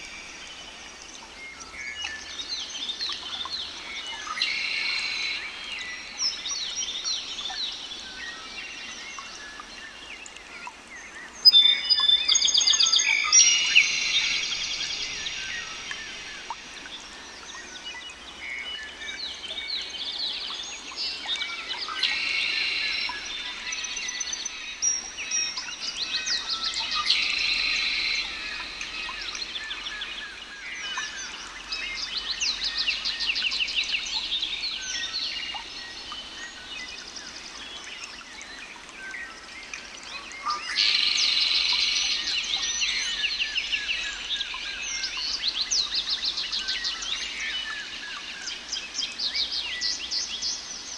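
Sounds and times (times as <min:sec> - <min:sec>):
songbirds singing and chirping: 0:00.0 - 0:50.9.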